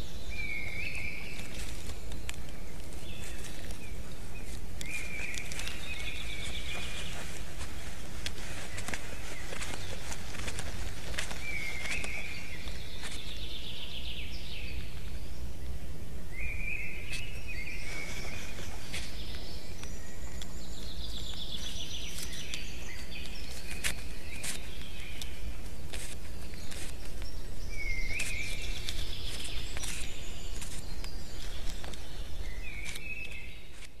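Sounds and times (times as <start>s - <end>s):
low background noise: 0.0s - 34.0s
small songbirds singing: 0.0s - 34.0s.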